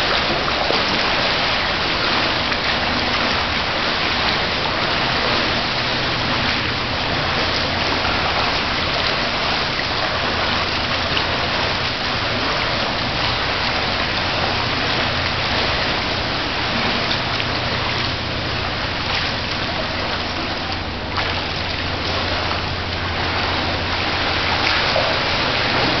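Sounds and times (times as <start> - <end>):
low steady hum: 0.0 - 26.0
water splashing in a pool: 0.0 - 26.0.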